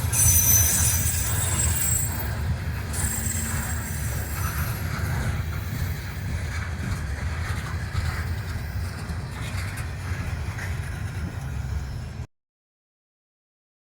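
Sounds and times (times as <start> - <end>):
train rail cars rumbling: 0.0 - 12.3.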